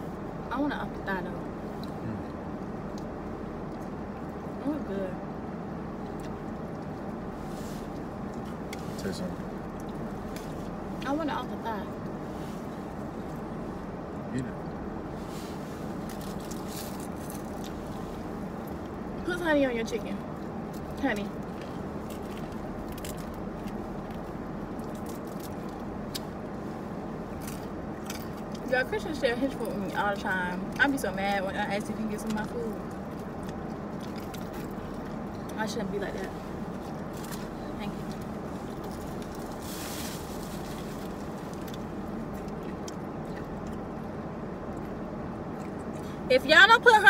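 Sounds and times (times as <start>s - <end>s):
car cabin hum: 0.0s - 47.0s.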